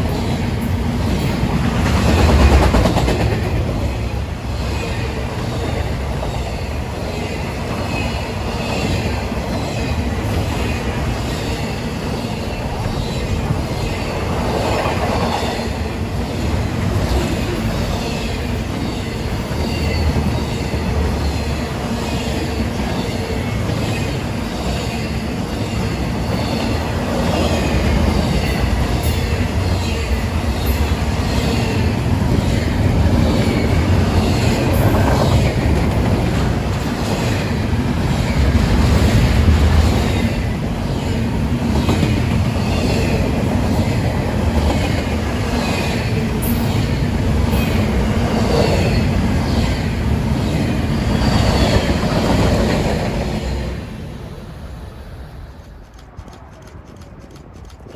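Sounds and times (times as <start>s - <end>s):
wheels clickety-clack: 0.0s - 6.6s, 7.6s - 53.5s, 55.4s - 57.9s
train wheel squeals: 0.0s - 53.8s
train wheels rumbling on rails: 0.0s - 57.9s.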